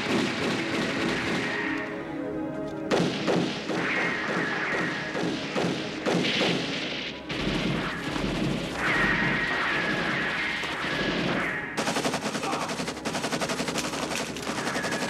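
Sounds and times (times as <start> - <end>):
pistol shots and impacts: 0.0 - 1.9, 2.9 - 15.0.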